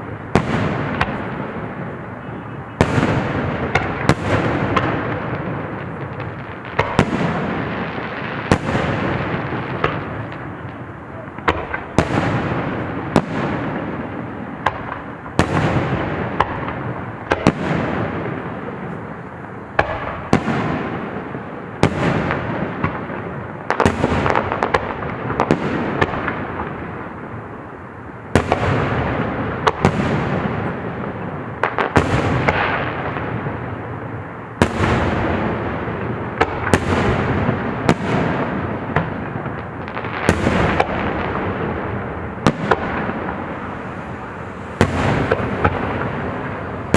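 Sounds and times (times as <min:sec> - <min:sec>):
fireworks booming: 0:00.0 - 0:46.9
fireworks crackle and echo: 0:00.0 - 0:46.9.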